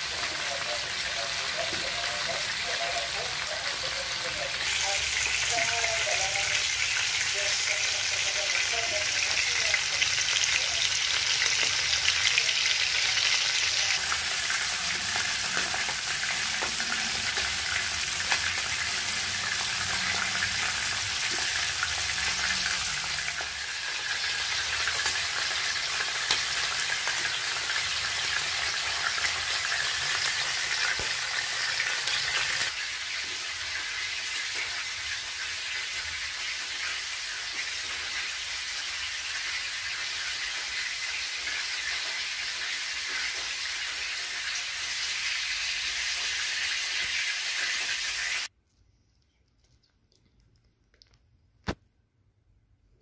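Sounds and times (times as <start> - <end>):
fish frying in hot oil: 0.0 - 48.5.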